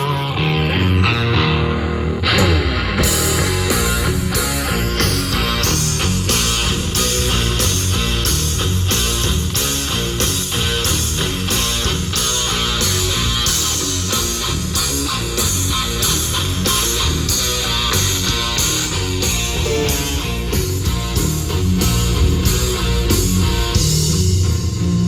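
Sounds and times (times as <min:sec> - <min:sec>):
rock song through party speaker: 0:00.0 - 0:25.0.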